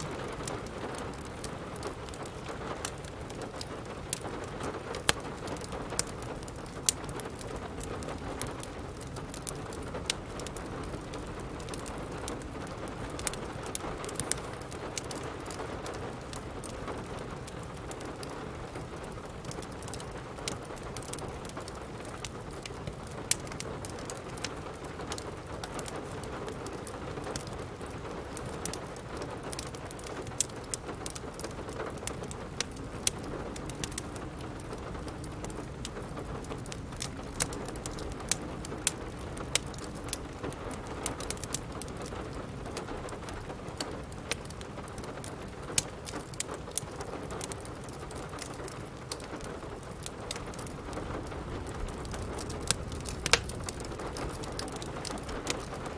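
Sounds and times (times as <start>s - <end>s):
steady rain falling: 0.0s - 55.9s
wood fire crackling: 0.0s - 55.9s.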